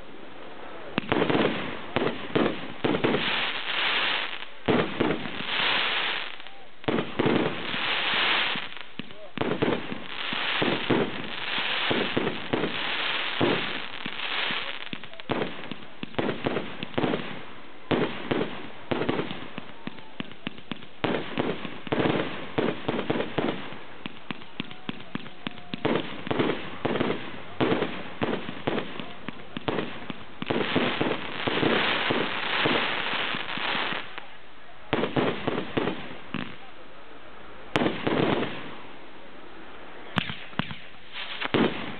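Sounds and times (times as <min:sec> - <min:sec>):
fireworks crackling hiss: 0:00.0 - 0:41.9
fireworks bangs and pops: 0:00.9 - 0:36.7, 0:37.7 - 0:38.8, 0:40.1 - 0:41.9.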